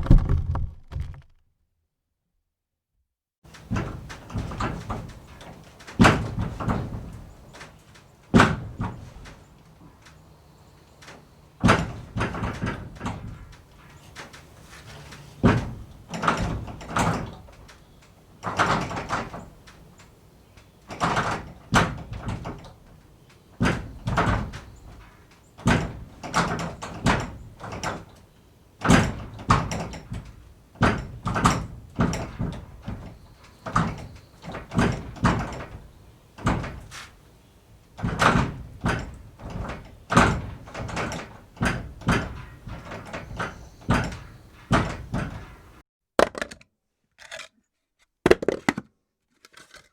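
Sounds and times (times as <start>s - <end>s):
barn door knocking and rattling: 3.5s - 10.2s, 11.0s - 45.8s.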